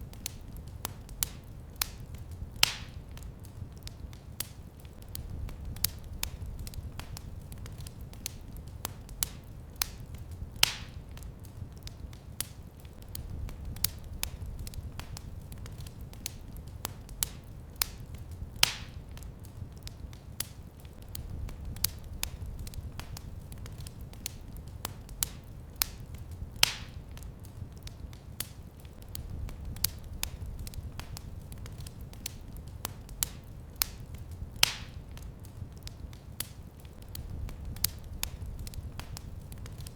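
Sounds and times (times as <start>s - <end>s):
loud fire pops: 0.0s - 11.7s, 12.4s - 19.6s, 20.4s - 39.9s
wood fire crackling: 0.0s - 39.9s.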